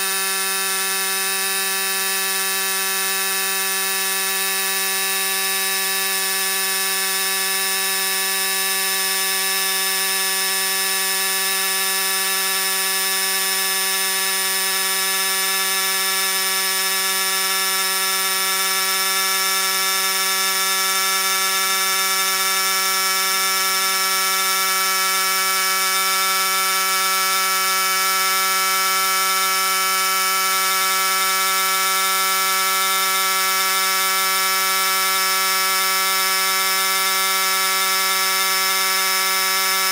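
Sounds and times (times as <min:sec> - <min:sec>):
tire inflator buzzing: 0:00.0 - 0:39.9.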